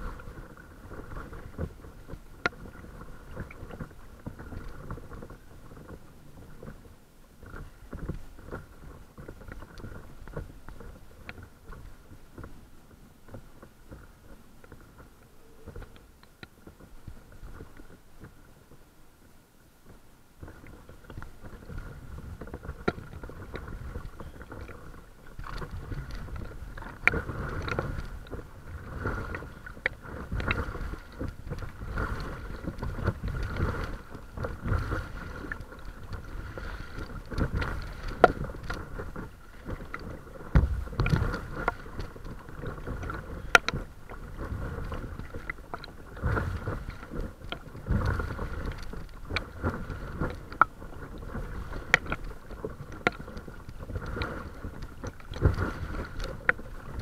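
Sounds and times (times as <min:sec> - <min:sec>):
paddle strokes in water: 0:00.0 - 0:57.0
river water splashing and lapping: 0:00.0 - 0:57.0.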